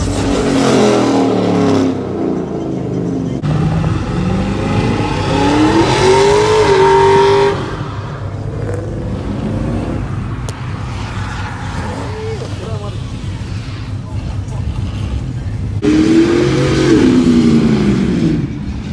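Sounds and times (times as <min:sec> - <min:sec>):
low engine rumble: 0:00.0 - 0:18.9
vehicle engine revving: 0:00.0 - 0:18.9.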